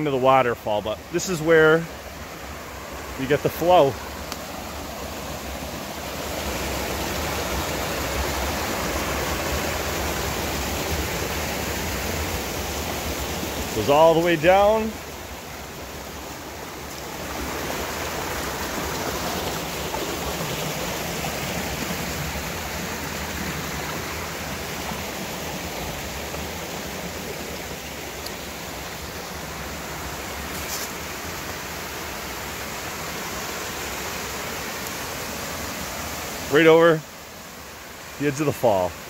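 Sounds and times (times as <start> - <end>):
creek rushing over rocks: 0.0 - 39.0.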